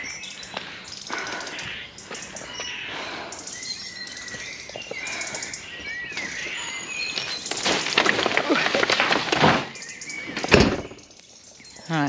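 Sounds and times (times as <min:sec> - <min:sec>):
songbirds trilling and whistling: 0:00.0 - 0:12.0.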